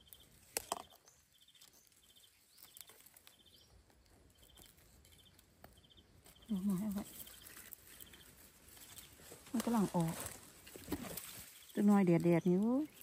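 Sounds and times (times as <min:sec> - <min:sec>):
sharp crackles: 0:00.0 - 0:13.0.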